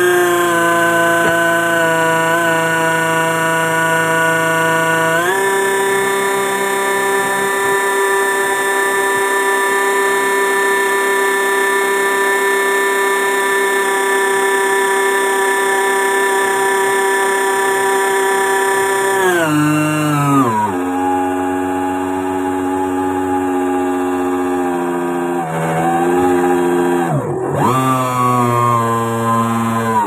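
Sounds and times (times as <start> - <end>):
model boat motor whine: 0.0 - 30.0.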